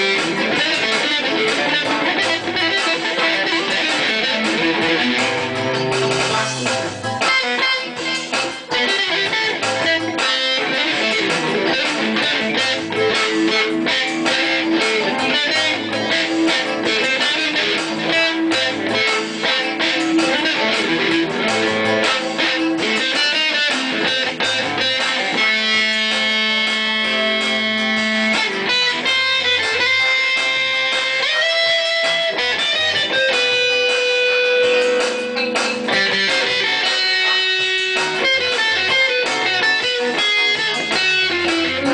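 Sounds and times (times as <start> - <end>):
electric guitar playing: 0.0 - 41.9.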